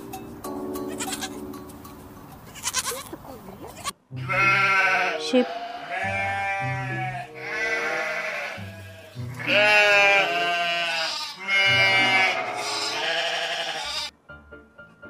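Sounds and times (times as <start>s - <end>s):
background music: 0.0s - 2.5s, 4.0s - 15.0s
sheep bleating: 0.9s - 1.4s, 2.6s - 14.1s.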